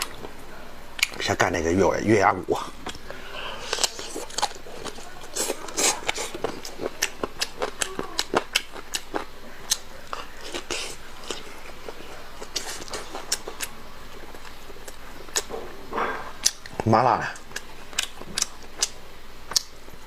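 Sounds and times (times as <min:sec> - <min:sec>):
chewing and crunching bone: 0:02.6 - 0:19.8.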